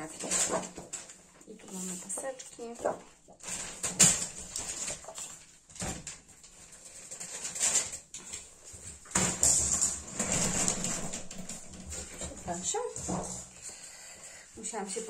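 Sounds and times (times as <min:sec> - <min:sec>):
paper rustling: 0:00.0 - 0:13.5.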